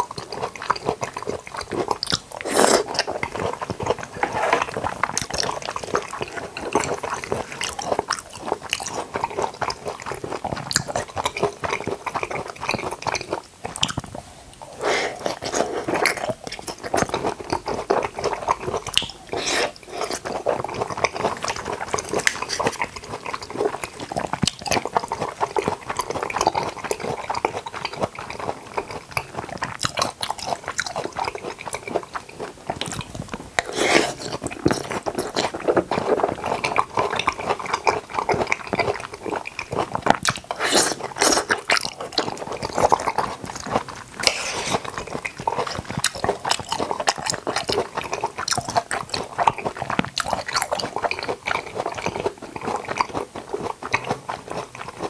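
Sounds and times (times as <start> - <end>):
wet chewing and lip-smacking: 0.0 - 55.0.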